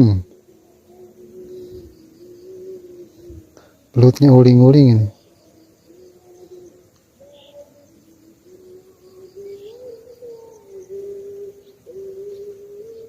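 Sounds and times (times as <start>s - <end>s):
wavering low tone: 0.0s - 3.7s, 4.6s - 13.0s.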